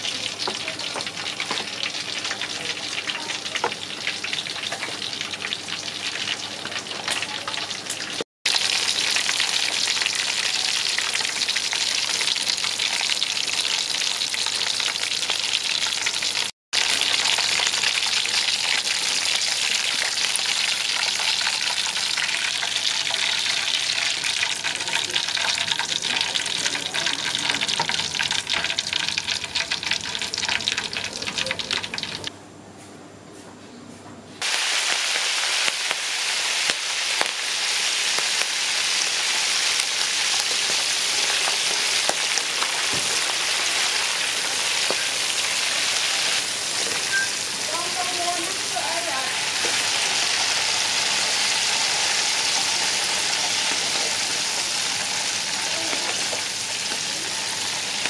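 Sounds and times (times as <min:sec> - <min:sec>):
meatballs sizzling in hot oil: 0:00.0 - 0:32.3, 0:34.4 - 0:58.0.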